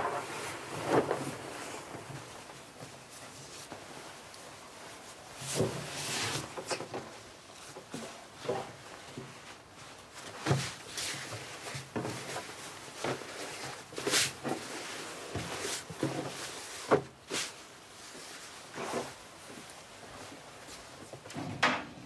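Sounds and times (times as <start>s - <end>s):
fabric rustling: 0.0s - 6.6s, 7.2s - 21.2s.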